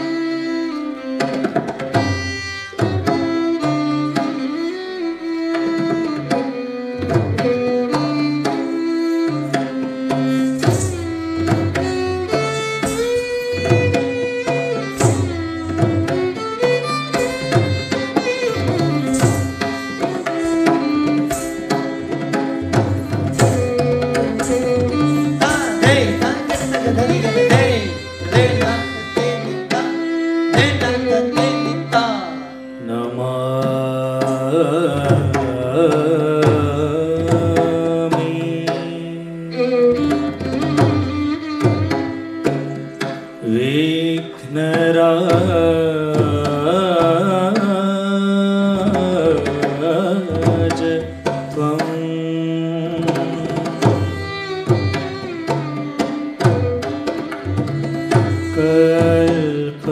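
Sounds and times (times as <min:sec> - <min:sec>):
person singing: 0:05.7 - 0:41.8, 0:43.3 - 0:59.9.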